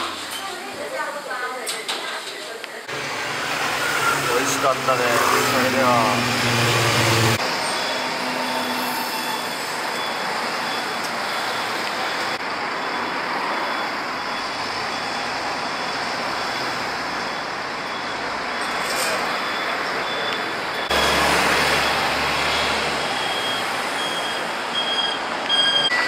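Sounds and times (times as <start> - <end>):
street traffic: 0.0 - 26.0
buses and cars passing: 2.8 - 26.0.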